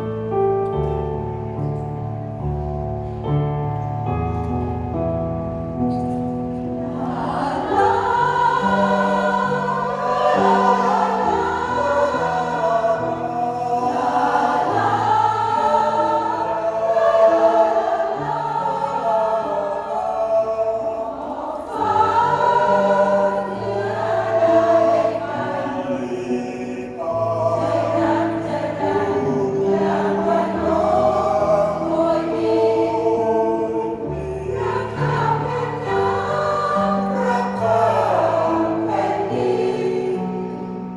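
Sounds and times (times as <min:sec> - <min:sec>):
piano accompaniment: 0:00.0 - 0:40.9
mixed choir singing: 0:06.5 - 0:40.9.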